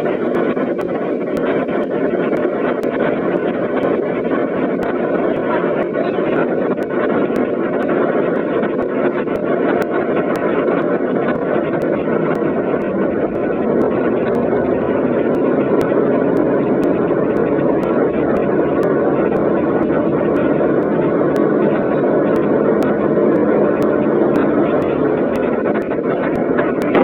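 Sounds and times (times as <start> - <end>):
muffled train rumble: 0.0 - 27.0.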